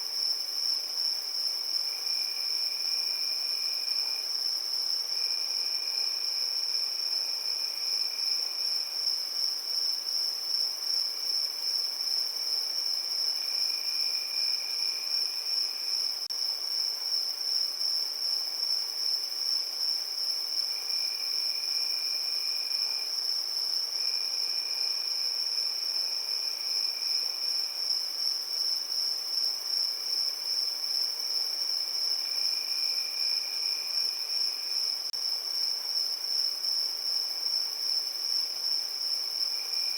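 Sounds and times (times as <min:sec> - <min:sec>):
high-pitched cricket trill: 0:00.0 - 0:39.9
lower cricket trill: 0:00.0 - 0:39.9.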